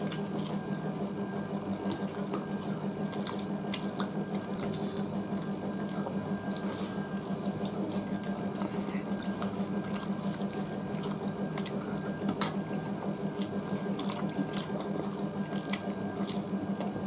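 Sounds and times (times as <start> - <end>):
chewing and lip-smacking: 0.0 - 16.9
steady low hum: 0.0 - 17.0.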